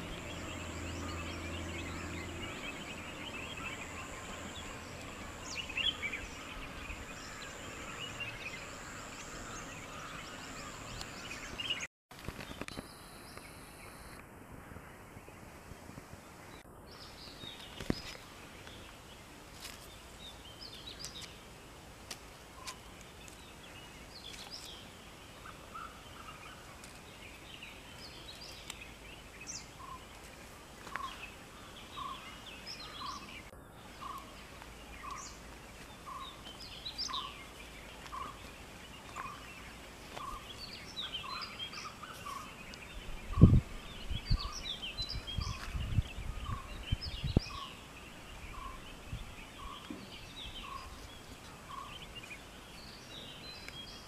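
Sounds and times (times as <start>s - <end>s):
birds chirping and calling: 0.0s - 15.4s, 22.6s - 54.0s.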